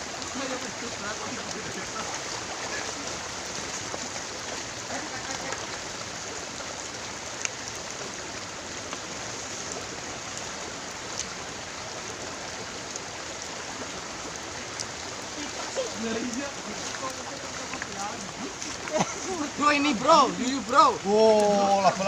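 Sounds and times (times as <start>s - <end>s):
flowing river water: 0.0s - 22.0s.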